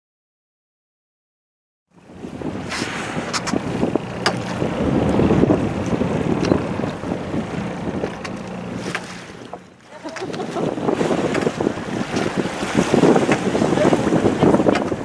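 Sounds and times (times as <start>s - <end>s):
water noise: 1.9s - 15.0s
wind buffeting microphone: 2.0s - 15.0s.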